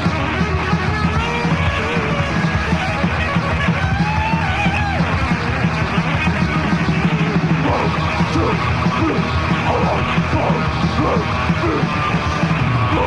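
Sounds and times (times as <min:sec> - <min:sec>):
death metal band playing live: 0:00.0 - 0:13.0
high sliding guitar line: 0:00.0 - 0:13.0.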